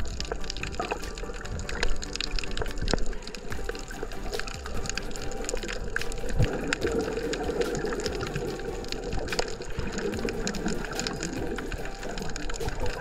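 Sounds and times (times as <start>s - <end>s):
muffled underwater rush of water: 0.0s - 13.0s
sharp underwater clicks and crackles: 0.0s - 13.0s.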